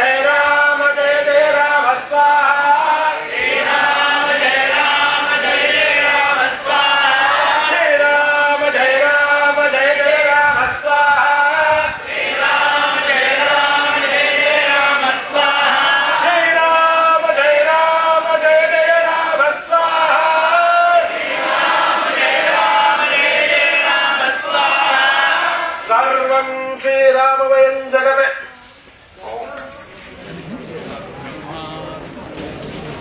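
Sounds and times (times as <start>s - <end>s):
men chanting in unison: 0.0s - 26.6s.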